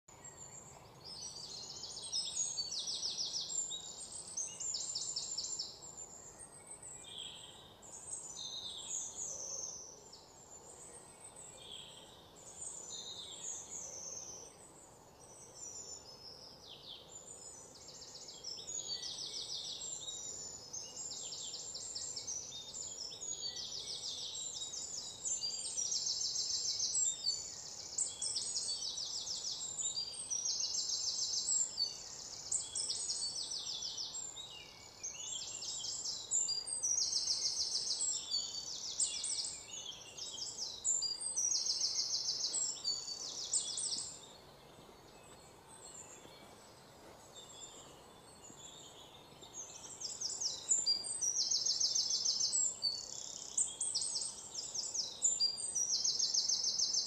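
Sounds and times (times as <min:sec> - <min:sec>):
birds chirping and trilling: 0:00.1 - 0:57.0.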